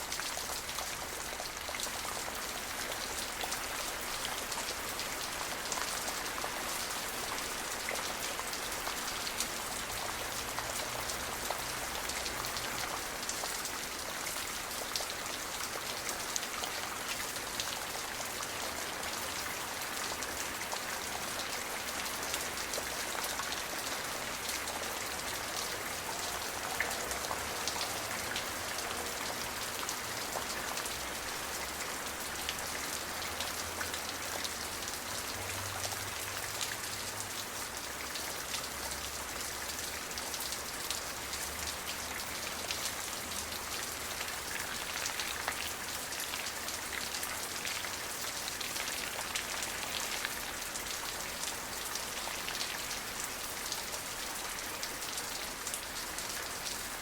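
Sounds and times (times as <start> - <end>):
steady rain with ticking drops: 0.0 - 57.0.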